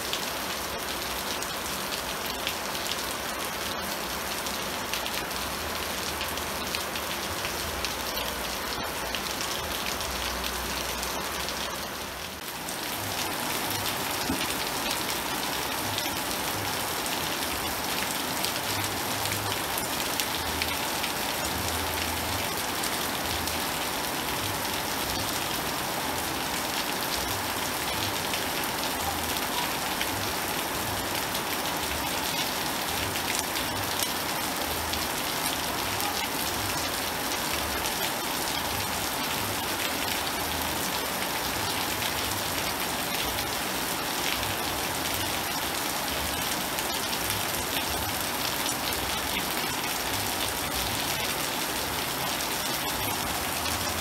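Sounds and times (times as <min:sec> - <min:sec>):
heavy rain on concrete and leaves: 0:00.0 - 0:54.0.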